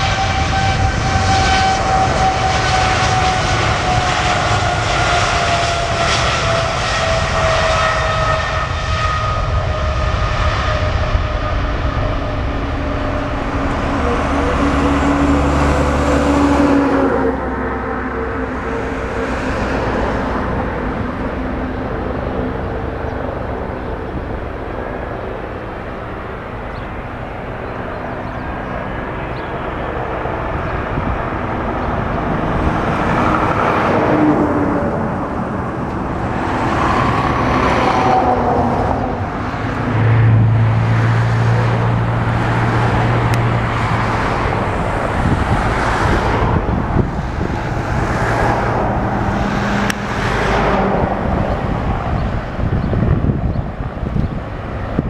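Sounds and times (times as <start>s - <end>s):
whining tones: 0.0s - 54.2s
jet engines roaring: 0.0s - 55.0s
strong low hum: 0.0s - 55.0s.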